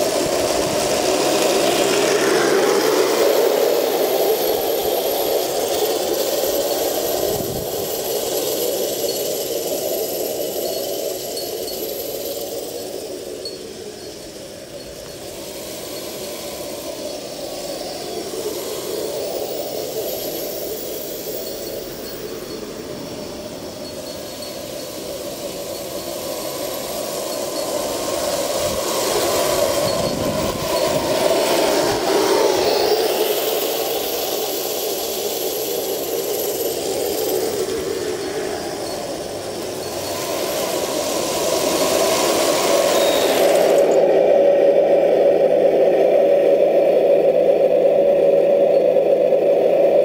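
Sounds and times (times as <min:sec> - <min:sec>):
electric motor whine: 0:00.0 - 0:47.0.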